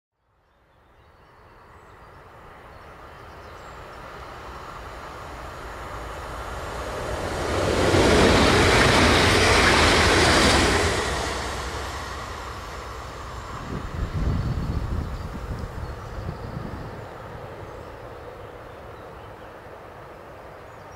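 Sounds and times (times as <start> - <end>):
electric train passing: 1.6 - 20.9.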